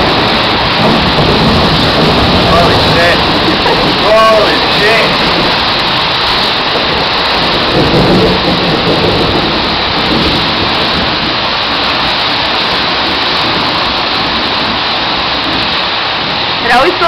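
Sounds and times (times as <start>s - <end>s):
heavy rain pouring: 0.0s - 17.0s
low thunder rumble: 0.0s - 17.0s.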